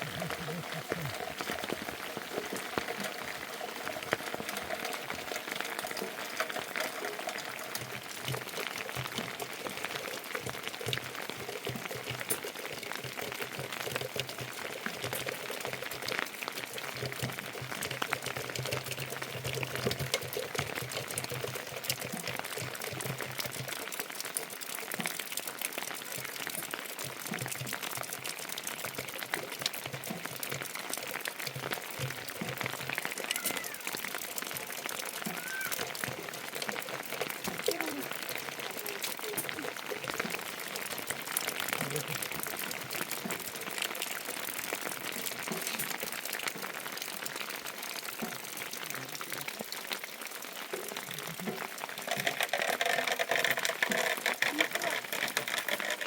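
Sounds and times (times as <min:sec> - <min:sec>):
crackling patter of water: 0:00.0 - 0:56.0.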